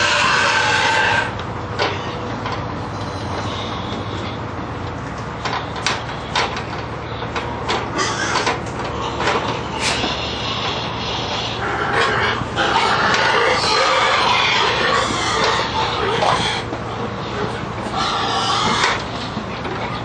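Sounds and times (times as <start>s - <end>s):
pigs squealing: 0.0s - 2.3s, 2.9s - 4.5s, 6.2s - 20.0s
steady low hum: 0.0s - 20.0s.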